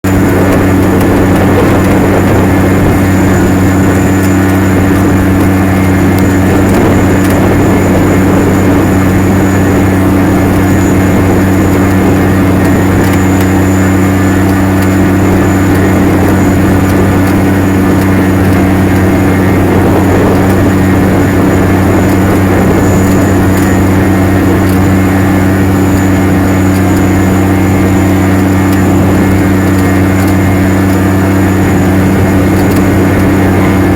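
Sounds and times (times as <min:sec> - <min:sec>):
tractor diesel engine drone: 0:00.0 - 0:33.9
thin high whine: 0:00.1 - 0:33.9.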